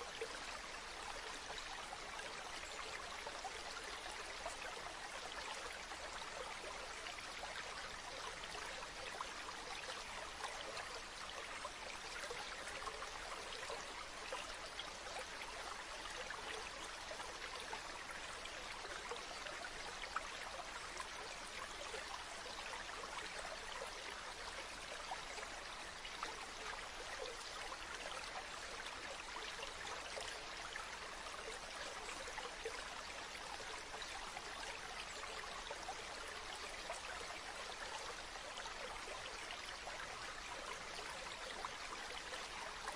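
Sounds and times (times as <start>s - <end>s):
stream babbling: 0.0s - 42.9s.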